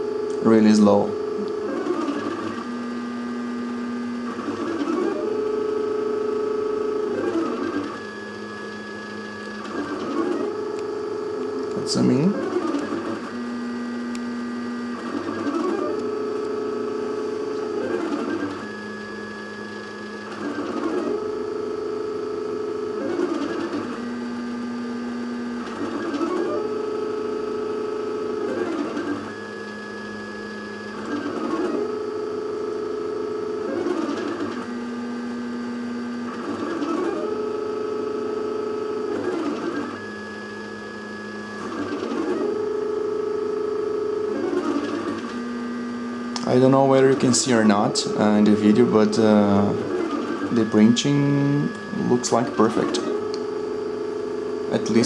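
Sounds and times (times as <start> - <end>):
stepper motors whining: 0.0 - 55.0.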